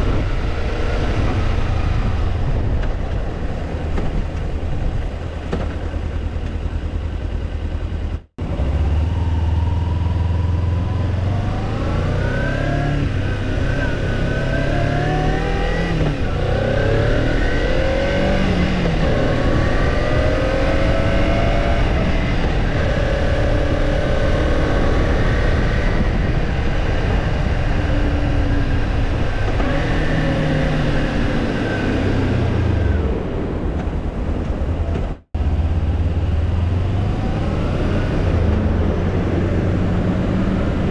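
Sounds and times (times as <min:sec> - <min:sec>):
rush of wind noise: 0:00.0 - 0:06.4, 0:08.4 - 0:40.9
motorcycle engine accelerating: 0:00.0 - 0:40.9.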